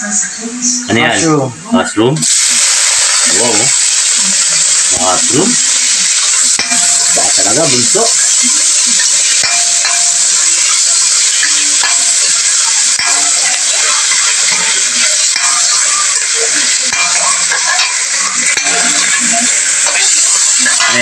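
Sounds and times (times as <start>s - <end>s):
mushrooms sizzling in a pan: 2.2s - 21.0s
metal spatula scraping a pan: 3.0s - 21.0s.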